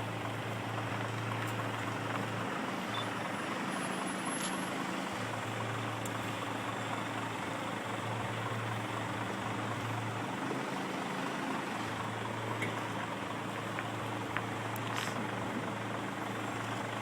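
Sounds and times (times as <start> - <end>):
mechanical and road noise: 0.0 - 17.0
truck engine humming: 0.0 - 17.0.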